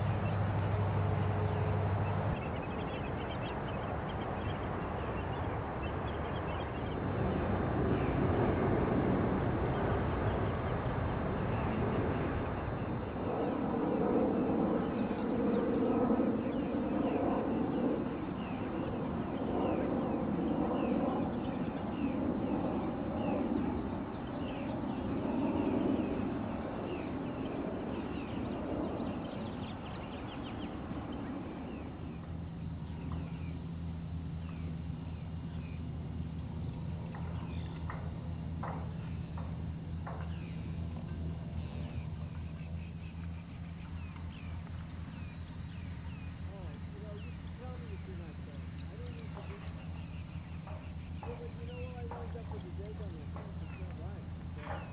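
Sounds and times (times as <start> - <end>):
low background rumble: 0.0 - 54.9
small birds chirping: 0.0 - 54.9.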